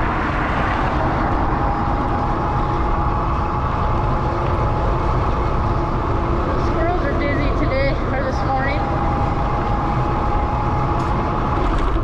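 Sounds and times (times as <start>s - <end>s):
thin motor whine: 0.0s - 12.0s
wind and road noise: 0.0s - 12.0s.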